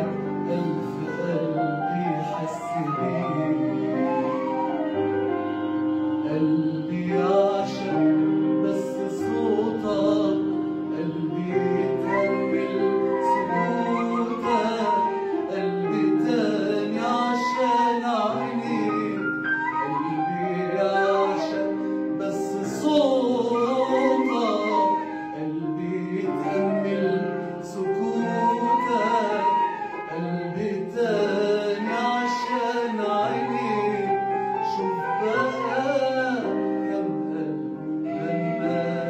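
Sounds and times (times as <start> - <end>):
instrumental accompaniment of held chords: 0.0 - 39.0
man singing: 0.0 - 39.0.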